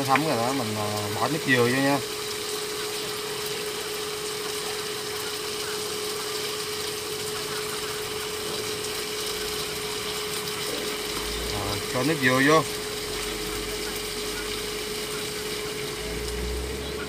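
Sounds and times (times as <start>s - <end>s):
food sizzling in frying pan: 0.0s - 17.0s
induction cooktop humming: 0.0s - 17.0s.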